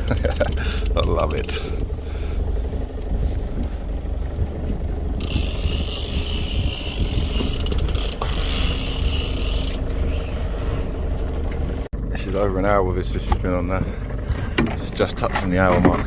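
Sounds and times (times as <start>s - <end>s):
boat motor rumbling: 0.0s - 16.0s.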